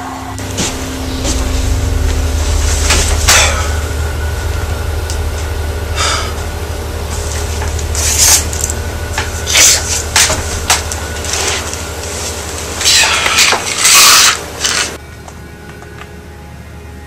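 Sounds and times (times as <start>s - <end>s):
steady low hum: 0.2s - 16.9s.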